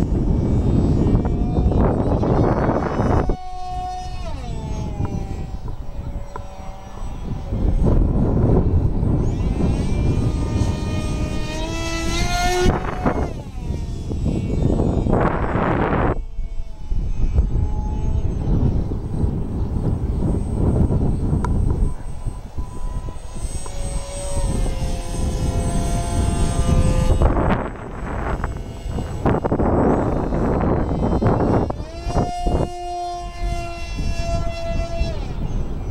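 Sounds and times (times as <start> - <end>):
model plane motor whine: 0.0 - 35.9
wind buffeting microphone: 0.0 - 35.9.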